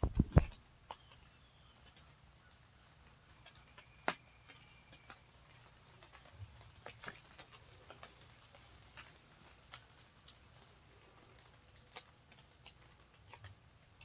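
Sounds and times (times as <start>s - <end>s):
water dripping off leaves: 0.0s - 14.0s.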